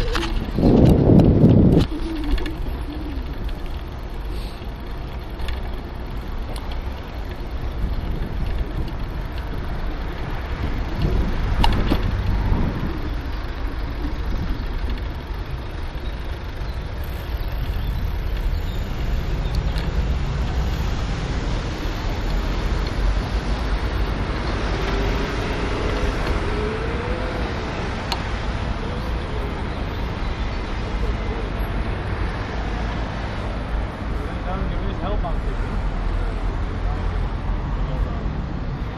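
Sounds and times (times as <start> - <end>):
cars passing: 0.0 - 38.9.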